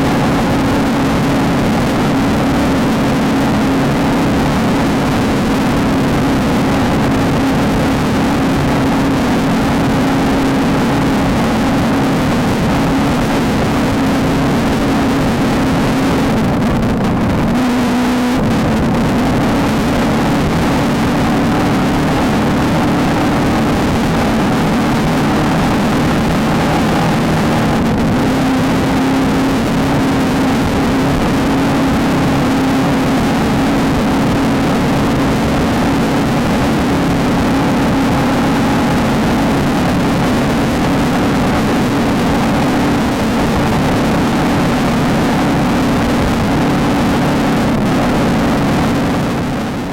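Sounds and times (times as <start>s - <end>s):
mechanical and road noise: 0.0s - 49.9s
race car engine running hard: 0.0s - 49.9s.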